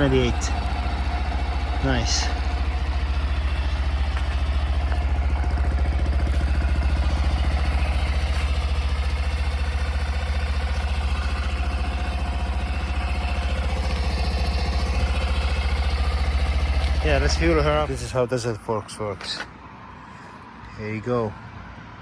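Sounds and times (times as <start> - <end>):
motorcycle engine idling: 0.0 - 18.5.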